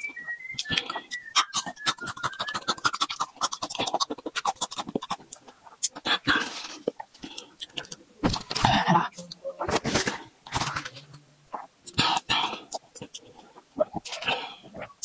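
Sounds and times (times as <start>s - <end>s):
wet mouth clicks: 0.0s - 8.1s, 10.5s - 15.0s
crunching and chewing: 0.0s - 15.0s.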